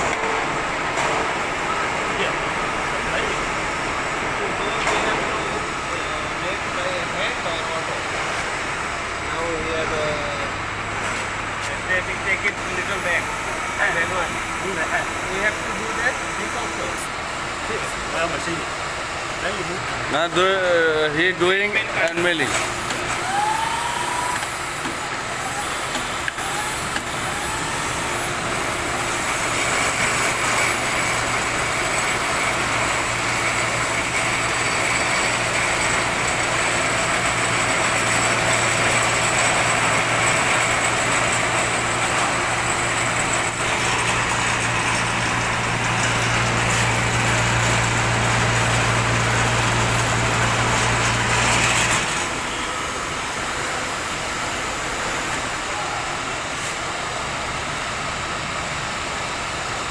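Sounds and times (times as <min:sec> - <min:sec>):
milling machine humming: 0:00.0 - 0:59.9
workshop noise: 0:00.0 - 0:59.9.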